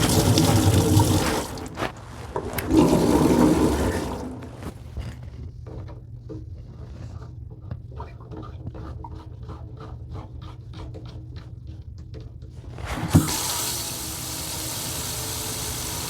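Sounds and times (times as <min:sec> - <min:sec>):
scraping and clicking at sink: 0:00.0 - 0:13.3.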